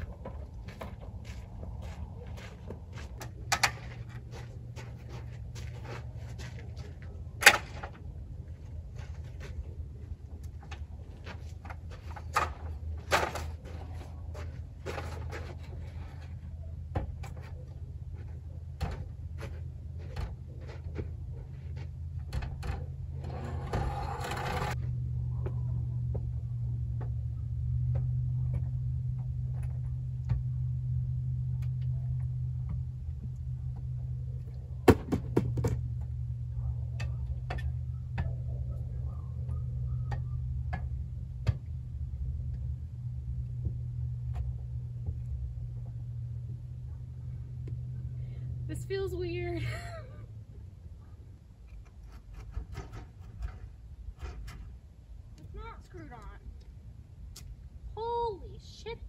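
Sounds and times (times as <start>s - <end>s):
steady low rumble: 0.0s - 52.2s, 53.2s - 59.0s.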